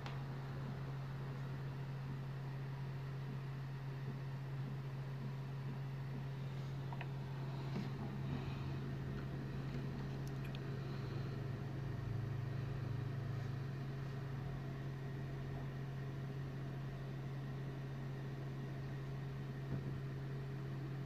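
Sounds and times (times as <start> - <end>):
second lower hum: 0.0 - 21.0
steady low hum: 0.0 - 21.0.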